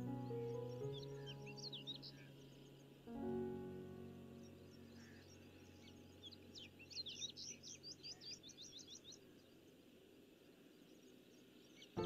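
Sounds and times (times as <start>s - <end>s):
birds chirping: 0.0s - 12.0s
faint steady hiss: 0.0s - 12.0s.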